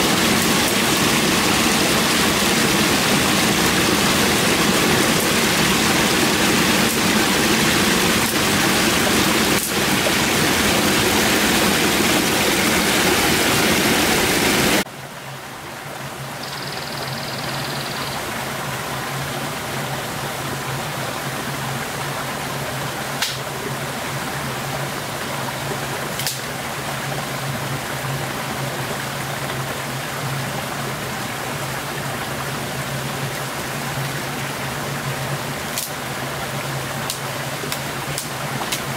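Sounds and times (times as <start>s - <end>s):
stream rushing over rocks: 0.0s - 16.5s, 18.1s - 38.9s.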